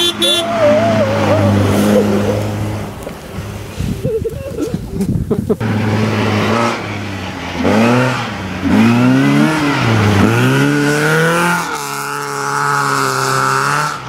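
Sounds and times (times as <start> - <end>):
rally car engine revving: 0.0 - 4.1, 5.3 - 14.0.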